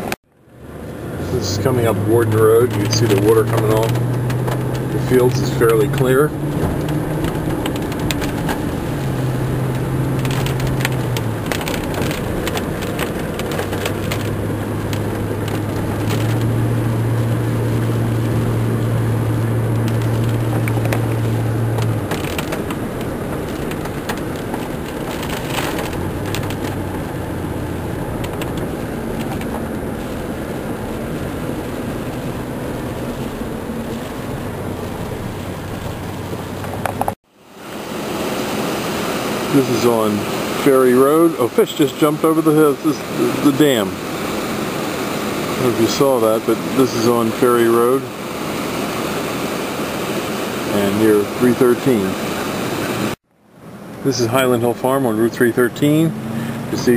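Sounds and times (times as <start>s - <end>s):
car driving: 0.0s - 56.9s
low engine hum: 0.0s - 56.9s.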